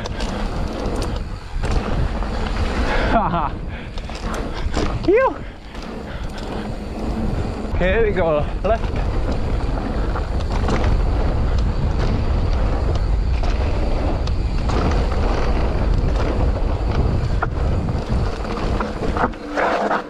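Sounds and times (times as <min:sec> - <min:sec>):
wind buffeting microphone: 0:00.0 - 0:19.6
bike rattling and knocking: 0:00.0 - 0:20.0
bike tyres rolling on gravel: 0:00.0 - 0:20.0.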